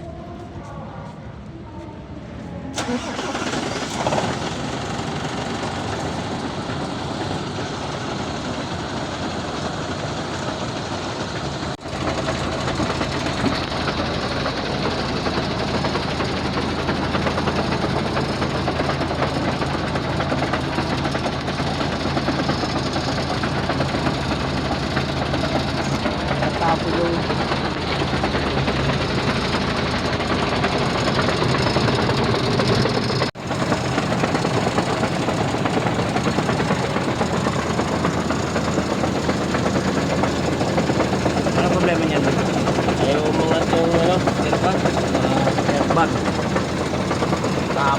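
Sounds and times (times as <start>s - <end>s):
diesel truck engine idling: 2.7s - 47.9s.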